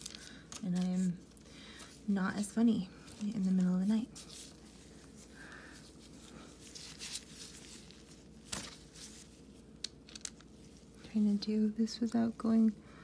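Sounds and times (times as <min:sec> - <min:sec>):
faint handling of piping bag: 0:00.0 - 0:12.8.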